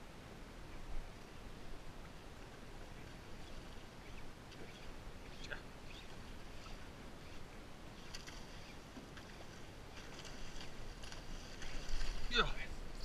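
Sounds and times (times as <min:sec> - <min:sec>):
faint wash of water: 0:01.1 - 0:12.8.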